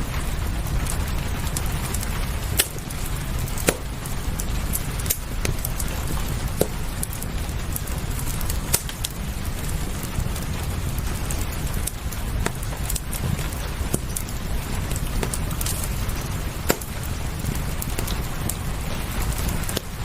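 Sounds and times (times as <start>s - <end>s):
fireplace crackling: 0.0s - 20.0s
rain hiss: 0.0s - 20.0s.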